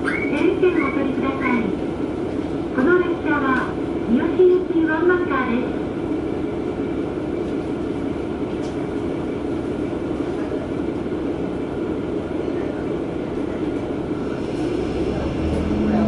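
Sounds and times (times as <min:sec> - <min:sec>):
railcar engine and wheel drone: 0:00.0 - 0:16.0.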